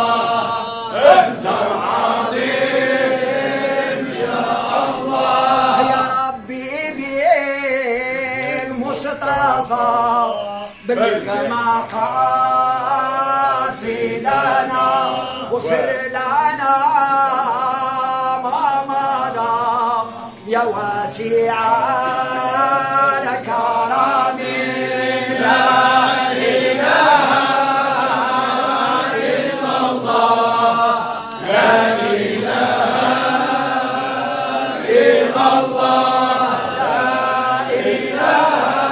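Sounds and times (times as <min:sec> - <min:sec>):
men chanting in unison: 0:00.0 - 0:38.9.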